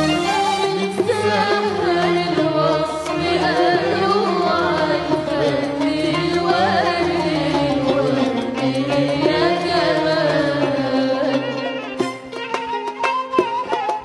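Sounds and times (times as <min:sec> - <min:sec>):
instrumental backing: 0:00.0 - 0:14.0.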